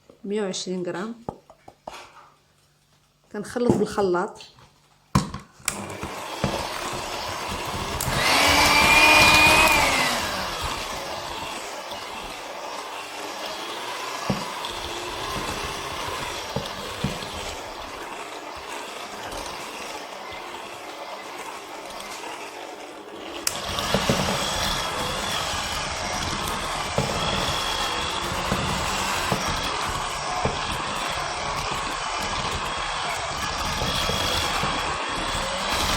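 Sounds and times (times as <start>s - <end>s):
electric hand mixer running: 5.7s - 35.9s.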